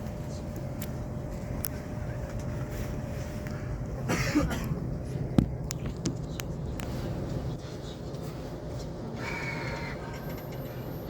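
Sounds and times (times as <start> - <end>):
train interior low hum: 0.0 - 11.0.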